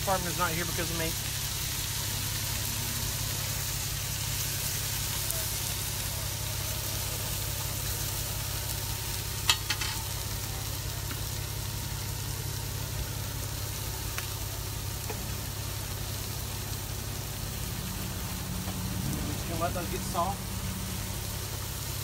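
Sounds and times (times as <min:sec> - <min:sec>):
low hum: 0:00.0 - 0:21.9
food sizzling in a pan: 0:00.0 - 0:22.0.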